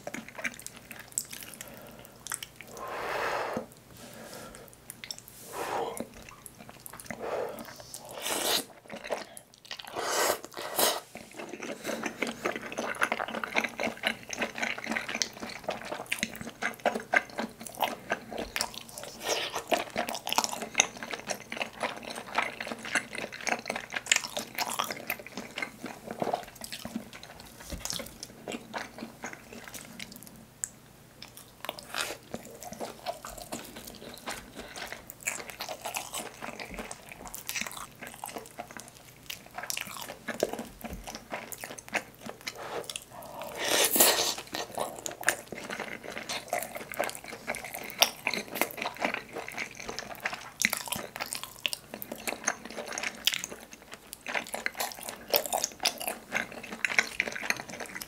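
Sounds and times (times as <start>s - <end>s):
chewing rice ball: 0.0s - 2.8s, 5.9s - 58.0s.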